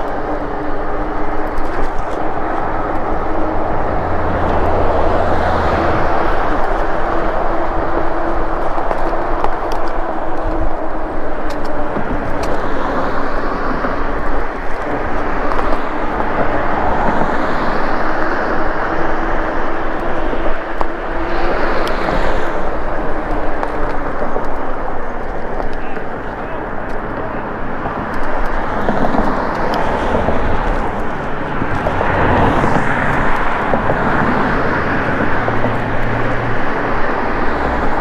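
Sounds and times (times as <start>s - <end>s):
low hum: 0.0s - 38.0s
wind and road noise: 0.0s - 38.0s.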